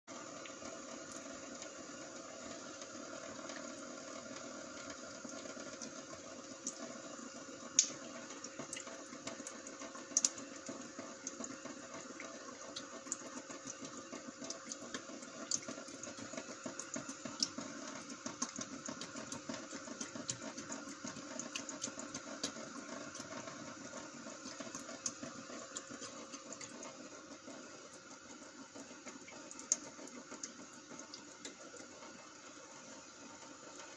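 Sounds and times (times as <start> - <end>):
water running: 0.1 - 33.9.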